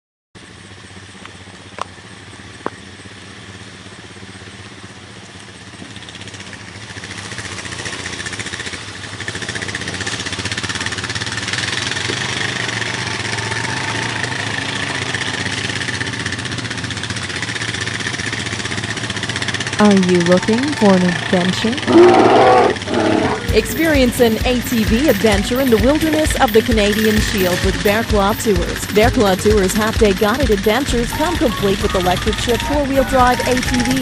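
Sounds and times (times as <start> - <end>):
atv engine running: 0.4 - 34.0.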